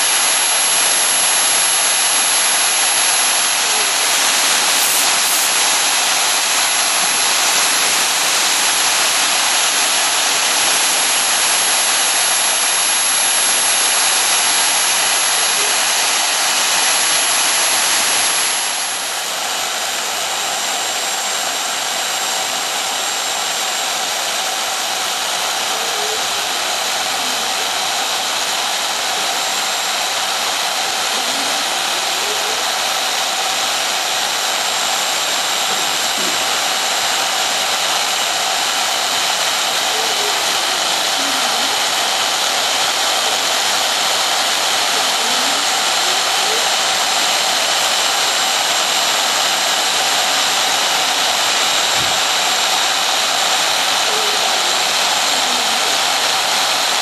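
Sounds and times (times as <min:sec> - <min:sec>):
router spindle cutting foam: 0:00.0 - 0:57.0.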